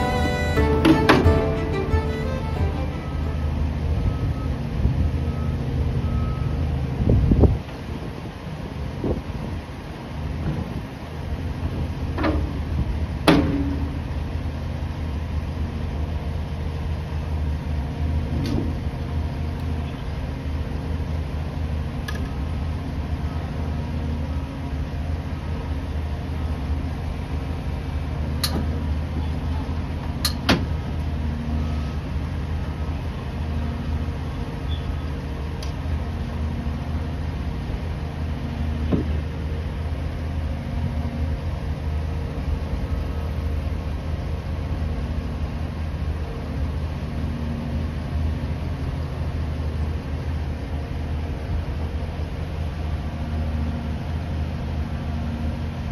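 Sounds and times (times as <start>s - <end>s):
engines idling and working: 0.0s - 55.9s.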